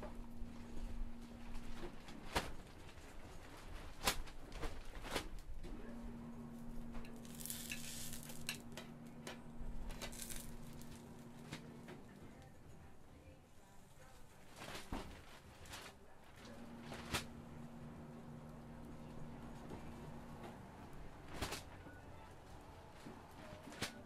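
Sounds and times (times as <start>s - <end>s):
low hum: 0.0s - 3.6s, 5.5s - 14.2s, 16.0s - 23.6s.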